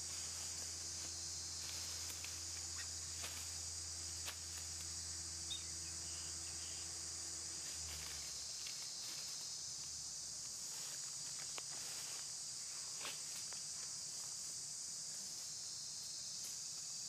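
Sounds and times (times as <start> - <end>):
low steady hum: 0.0 - 15.0
insects buzzing: 0.0 - 17.0.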